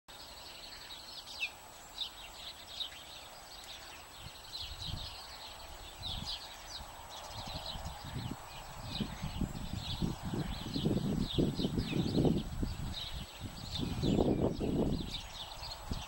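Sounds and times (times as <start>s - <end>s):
house sparrows chirping: 0.1s - 16.0s.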